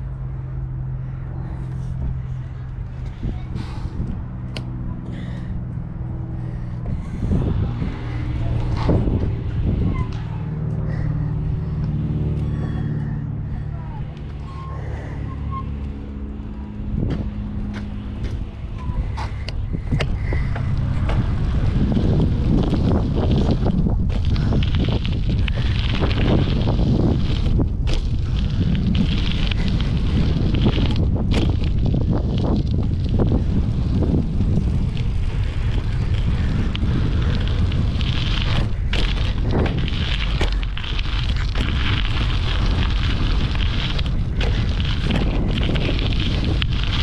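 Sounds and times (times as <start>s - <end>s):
wind on microphone: 0.0s - 13.3s, 16.8s - 47.0s
bike tyres rumbling on concrete: 0.0s - 47.0s.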